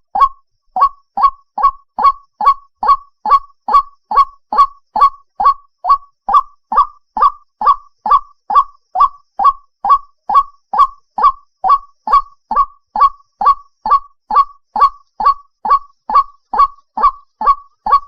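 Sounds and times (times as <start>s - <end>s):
waterhen calling: 0.0s - 18.0s.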